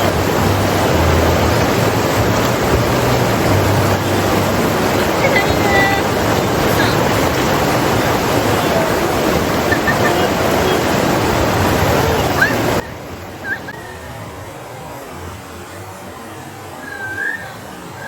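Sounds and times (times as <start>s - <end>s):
steady hiss: 0.0s - 15.0s
rushing water roar: 0.0s - 18.0s.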